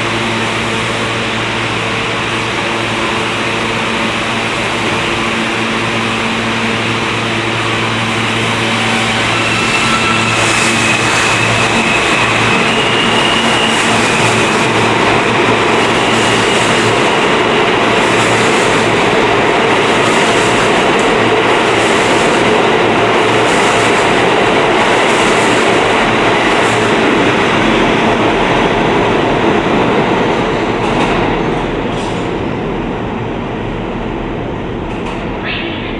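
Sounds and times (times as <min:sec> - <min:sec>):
subway train rumble: 0:00.0 - 0:35.9.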